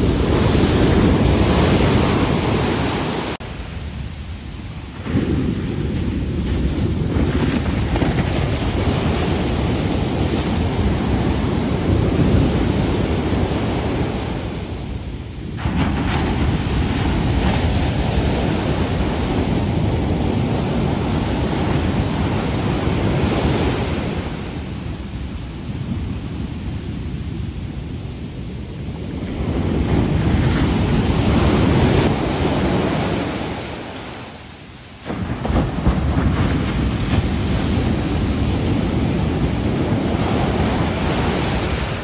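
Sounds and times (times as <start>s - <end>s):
surf rushing up beach: 0.0s - 42.0s
waves crashing: 0.0s - 42.0s
wind buffeting microphone: 0.0s - 42.0s.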